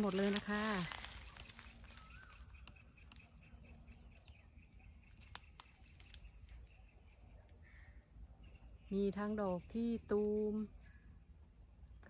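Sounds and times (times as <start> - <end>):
bird chirp: 0.9 - 12.0.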